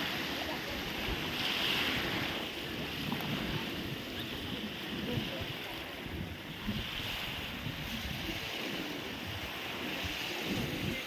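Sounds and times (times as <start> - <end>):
small lake waves: 0.0 - 11.0
wind rumbling on microphone: 0.0 - 11.0.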